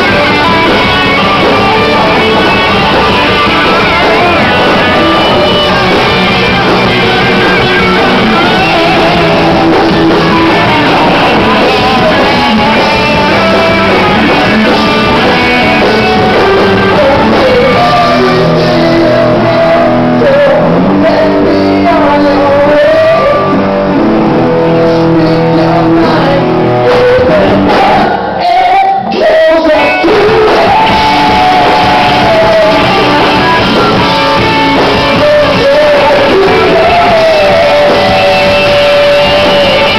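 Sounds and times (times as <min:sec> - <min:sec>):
bass guitar: 0:00.0 - 0:39.9
drums: 0:00.0 - 0:39.9
electric guitars: 0:00.0 - 0:39.9
man singing: 0:00.0 - 0:39.9.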